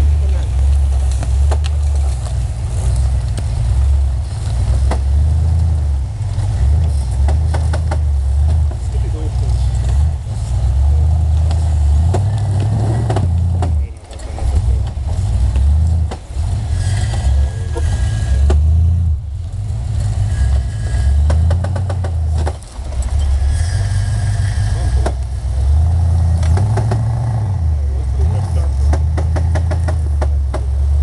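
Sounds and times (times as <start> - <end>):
engine revving hard: 0.0 - 31.0
tires churning in mud: 0.0 - 31.0.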